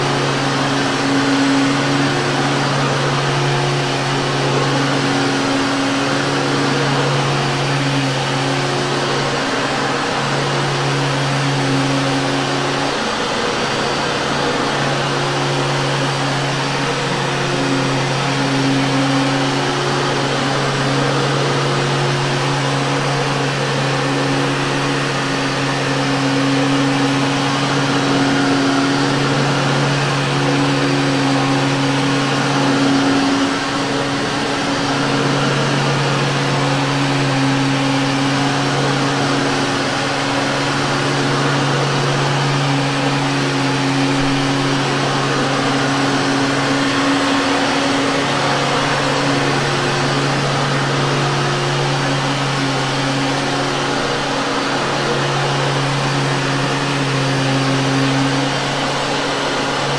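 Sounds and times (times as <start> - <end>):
vacuum cleaner running on carpet: 0.0 - 59.9.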